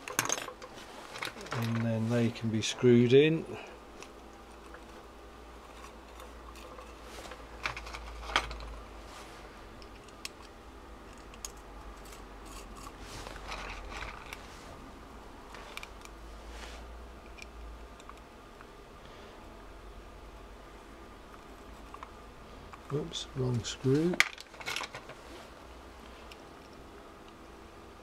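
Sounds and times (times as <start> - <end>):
rustling handling noise: 0.0 - 3.2, 3.8 - 18.2, 21.4 - 26.8.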